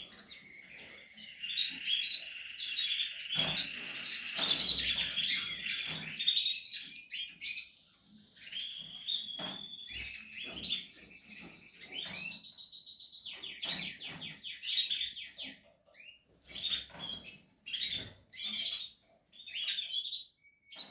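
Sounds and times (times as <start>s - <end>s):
canaries chirping: 0.0s - 20.9s.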